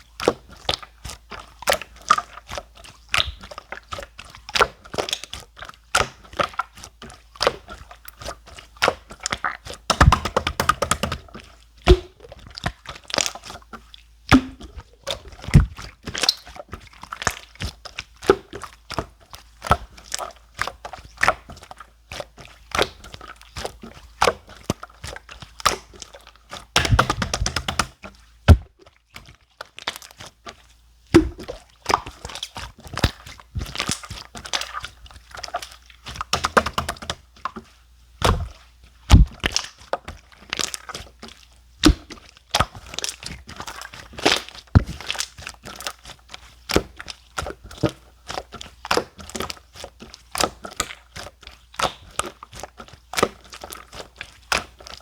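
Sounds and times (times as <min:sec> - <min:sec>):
slime squished by hand: 0:00.2 - 0:55.0.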